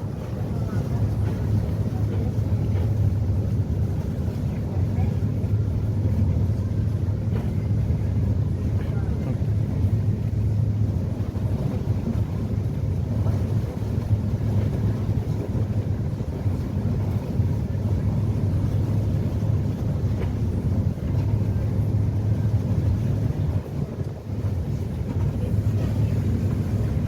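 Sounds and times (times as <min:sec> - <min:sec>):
ferry engines droning: 0:00.0 - 0:27.0
wind and water rushing: 0:00.0 - 0:27.0.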